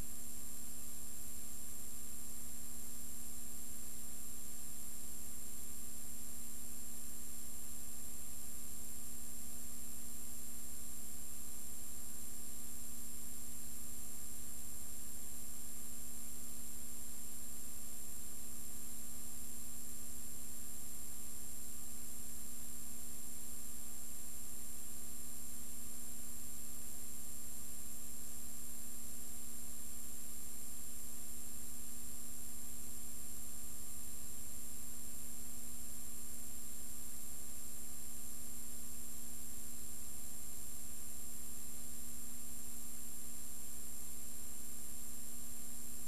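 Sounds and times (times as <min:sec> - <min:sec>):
electrical hum and hiss: 0:00.0 - 0:46.0.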